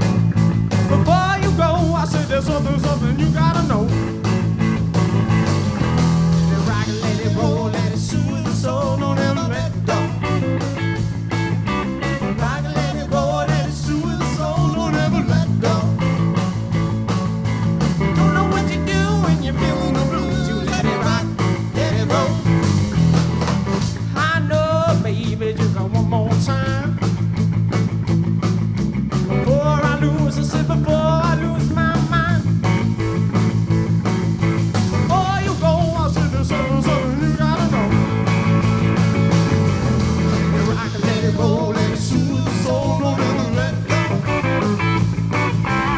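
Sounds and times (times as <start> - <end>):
drums: 0.0 - 45.9
electric bass: 0.0 - 45.9
electric guitar: 0.0 - 45.9.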